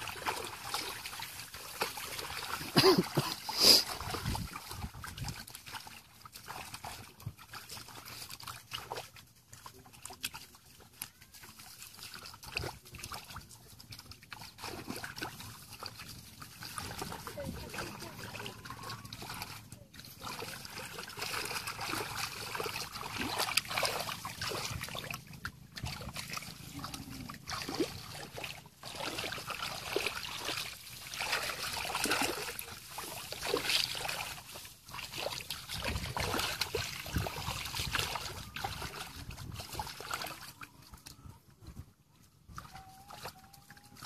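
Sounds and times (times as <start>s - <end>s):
hands splashing in muddy water: 0.0s - 41.8s.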